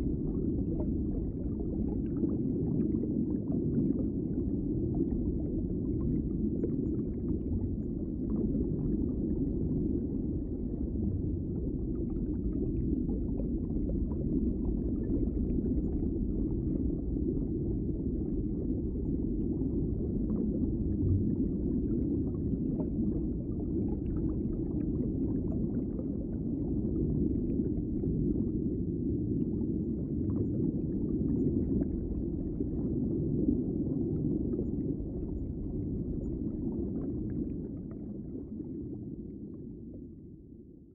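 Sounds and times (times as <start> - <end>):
faint crackles and pops: 0.0 - 40.8
underwater rumble of water: 0.0 - 40.9.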